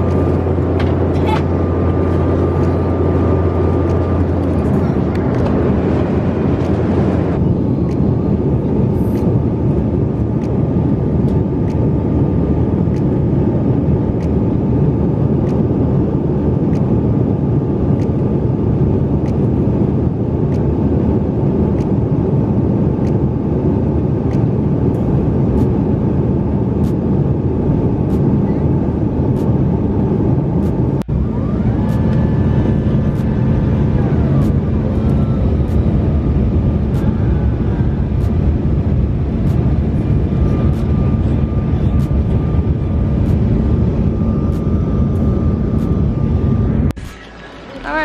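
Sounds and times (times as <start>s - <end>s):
jet engines roaring in cabin: 0.0s - 48.0s.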